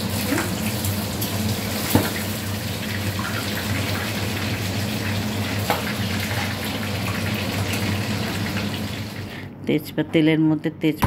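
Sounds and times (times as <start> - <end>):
fish frying in hot oil: 0.0 - 9.4.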